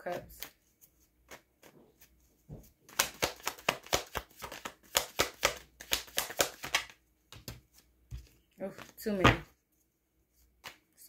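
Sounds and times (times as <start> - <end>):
cards being shuffled: 0.0 - 9.6, 10.3 - 10.9.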